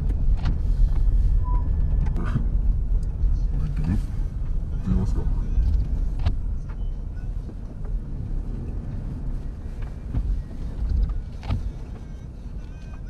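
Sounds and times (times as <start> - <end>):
car rumbling: 0.0 - 13.0.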